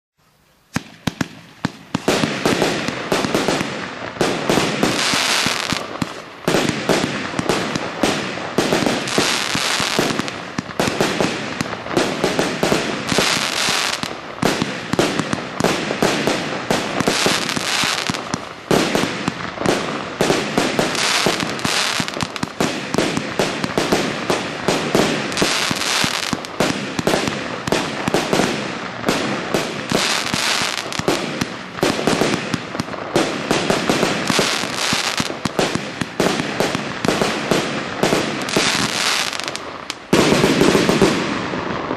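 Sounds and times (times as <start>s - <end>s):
firework cake barrage: 0.2s - 41.9s
firework crackle and bangs: 0.7s - 41.9s.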